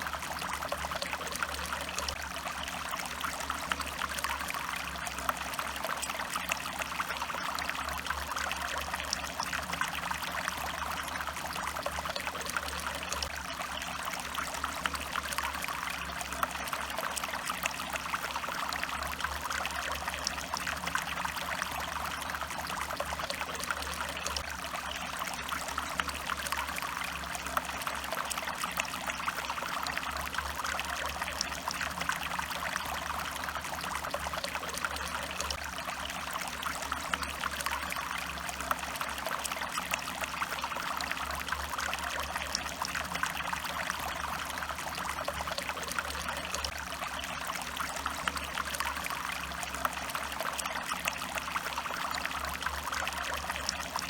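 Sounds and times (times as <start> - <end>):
stream water trickling over rocks: 0.0 - 54.0.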